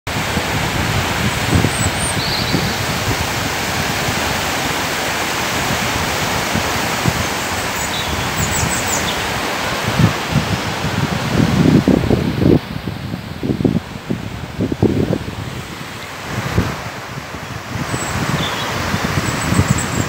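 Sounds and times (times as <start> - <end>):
river rushing: 0.1 - 20.0
wind gusting on microphone: 0.1 - 20.0.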